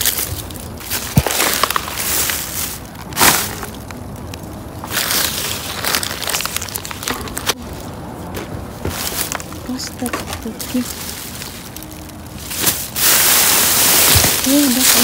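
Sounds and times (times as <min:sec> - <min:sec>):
plastic bags crinkling: 0:00.0 - 0:07.9, 0:08.6 - 0:15.0.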